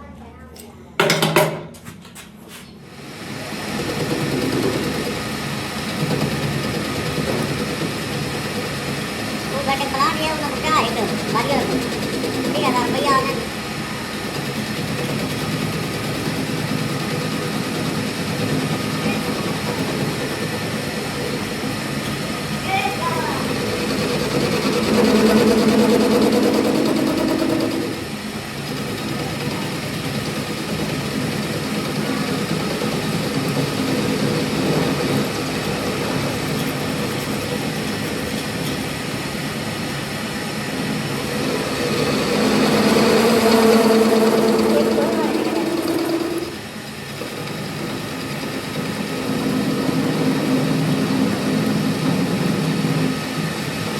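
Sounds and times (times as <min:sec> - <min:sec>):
machine humming: 0:02.8 - 0:53.9.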